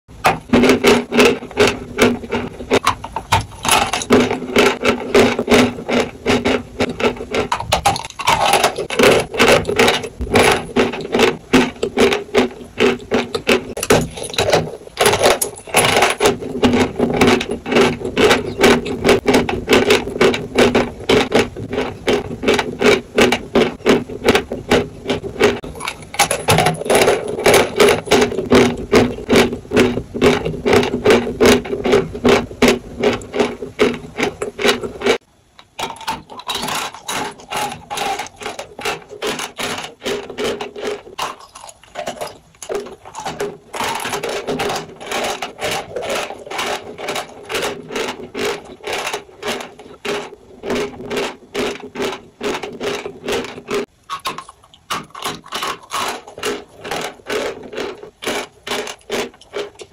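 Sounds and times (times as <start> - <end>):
chewing crunchy chalk: 1.0 - 59.9.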